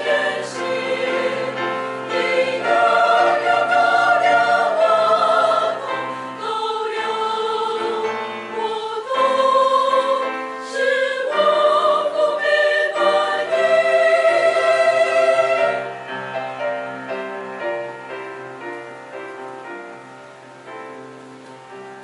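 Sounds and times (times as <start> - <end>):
choral music: 0.0 - 22.0.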